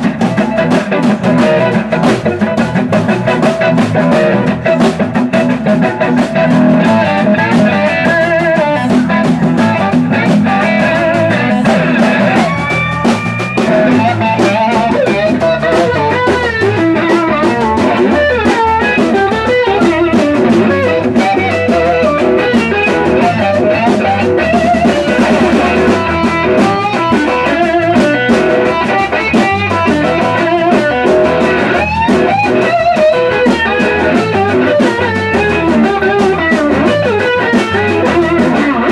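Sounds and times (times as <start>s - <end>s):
bass guitar: 0.0s - 38.9s
drums: 0.0s - 38.9s
slide guitar: 0.0s - 38.9s.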